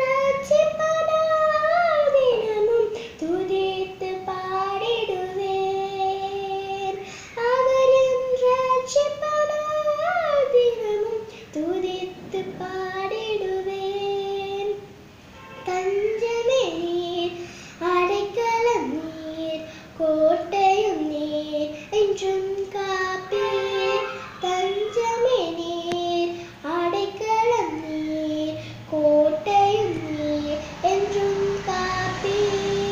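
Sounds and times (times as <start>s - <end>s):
girl singing: 0.0s - 15.0s, 15.6s - 32.9s.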